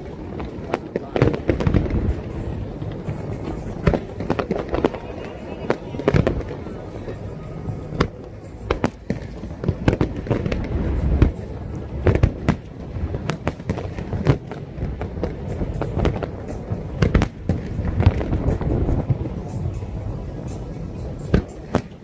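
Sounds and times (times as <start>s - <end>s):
fireworks bangs: 0.0s - 22.0s
low rumble of bursts: 0.0s - 22.0s.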